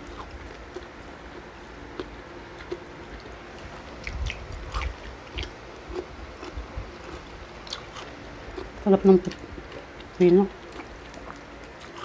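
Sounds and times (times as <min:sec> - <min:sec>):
chewing crispy food: 0:00.0 - 0:12.0.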